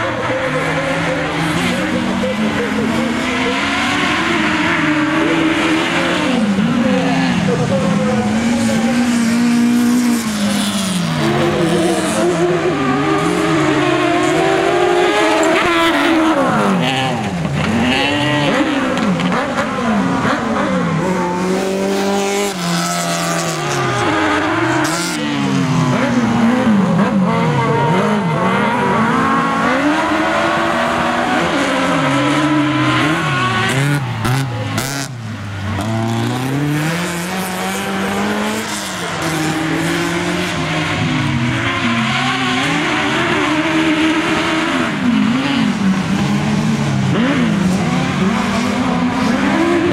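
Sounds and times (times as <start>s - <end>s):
race car engines revving: 0.0s - 49.9s.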